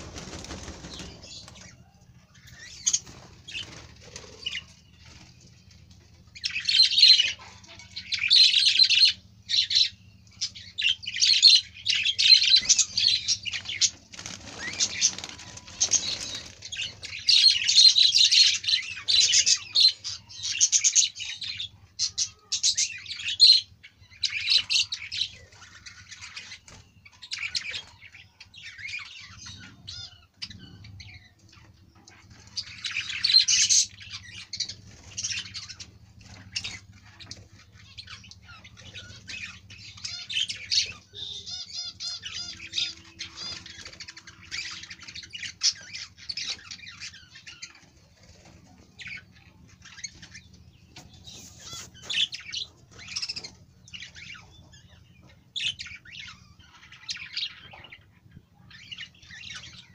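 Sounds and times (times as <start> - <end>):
budgerigars chattering: 6.3 - 47.9, 49.0 - 59.9.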